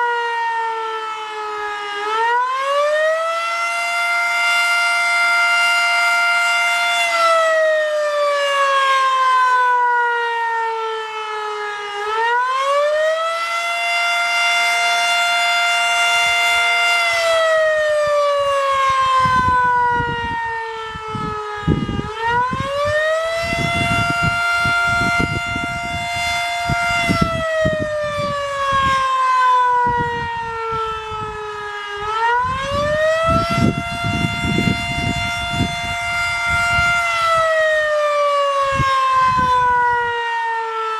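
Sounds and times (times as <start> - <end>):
fire siren wailing: 0.0 - 40.9.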